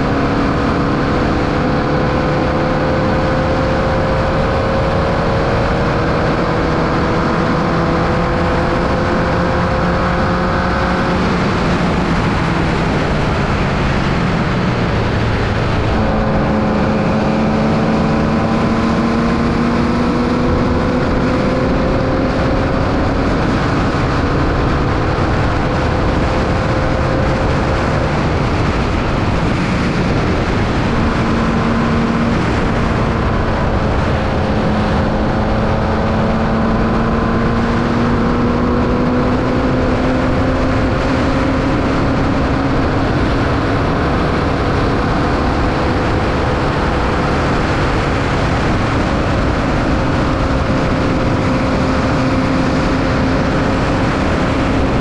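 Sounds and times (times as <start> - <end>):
race car engine running hard: 0.0 - 55.0
road noise: 0.0 - 55.0
rush of wind: 0.0 - 55.0.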